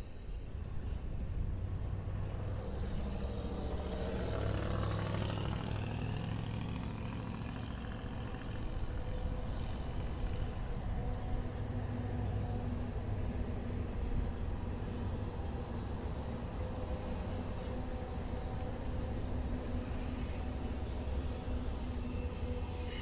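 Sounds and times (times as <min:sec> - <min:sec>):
diesel locomotives droning: 0:00.0 - 0:23.0.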